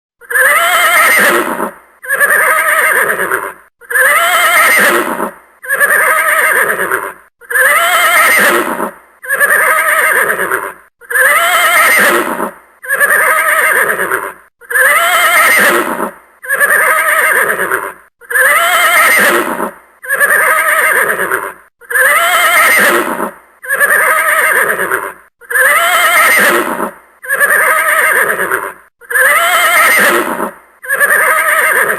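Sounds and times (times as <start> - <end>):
horse neighing: 0.2 - 31.9.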